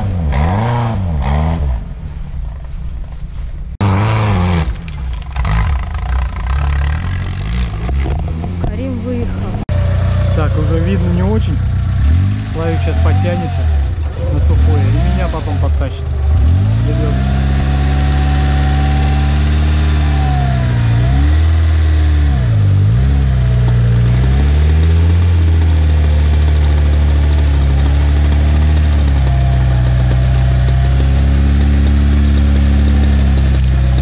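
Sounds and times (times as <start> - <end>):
off-road engine revving under load: 0.0 - 2.0, 3.7 - 34.0.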